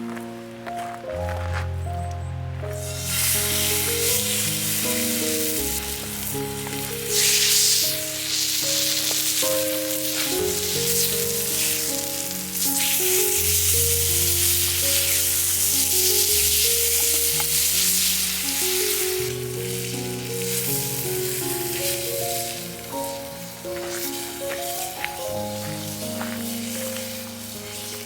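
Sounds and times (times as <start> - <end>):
background music with held notes: 0.0 - 28.0
food sizzling in a frying pan: 2.8 - 28.0.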